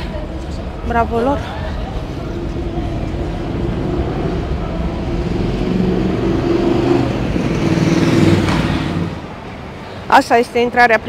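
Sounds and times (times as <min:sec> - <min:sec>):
vehicle engine running: 0:00.0 - 0:09.3.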